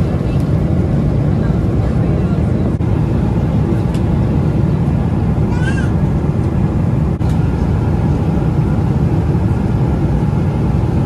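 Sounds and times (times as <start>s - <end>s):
jet engines and airflow rushing: 0.0s - 11.0s.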